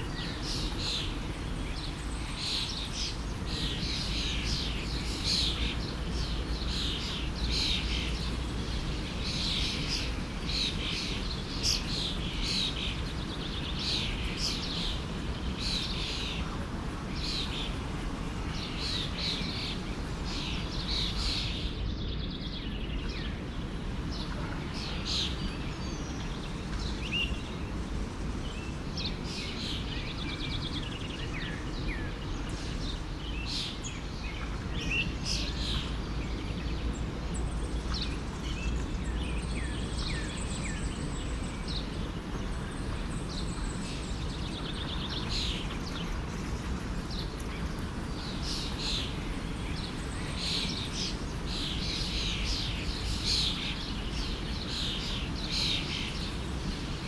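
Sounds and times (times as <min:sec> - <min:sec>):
forest stream rushing: 0:00.0 - 0:21.8, 0:22.6 - 0:57.0
songbirds chirping: 0:00.0 - 0:57.0.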